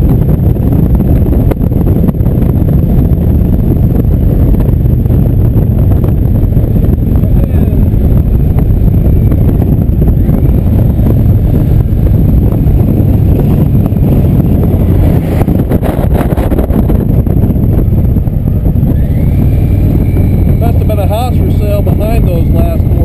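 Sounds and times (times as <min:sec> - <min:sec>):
motorcycle engine rumble: 0:00.0 - 0:23.0
wind rushing over microphone: 0:00.0 - 0:23.0.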